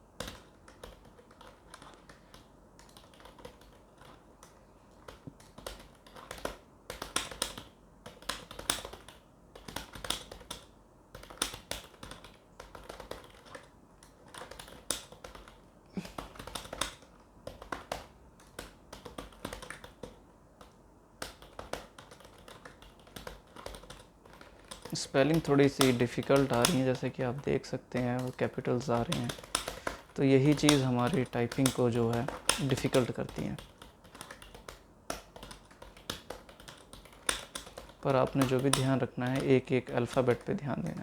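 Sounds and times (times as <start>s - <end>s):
fast typing on keyboard: 0.0s - 41.0s.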